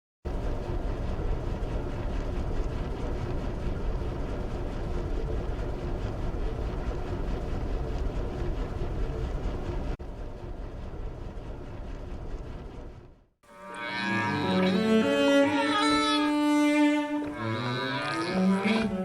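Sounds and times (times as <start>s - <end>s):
ship machinery rumbling: 0.3s - 19.0s.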